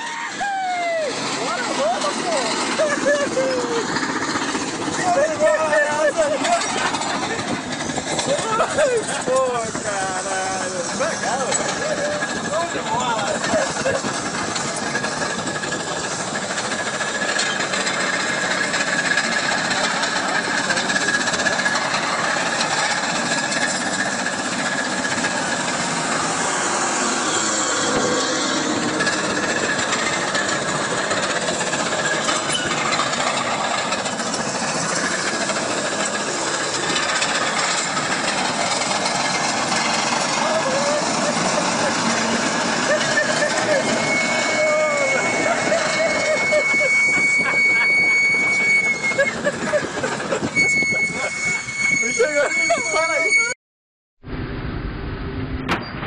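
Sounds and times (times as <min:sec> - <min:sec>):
bulldozer diesel engine under load: 0:00.0 - 0:53.4
steel tracks clanking: 0:00.0 - 0:53.6.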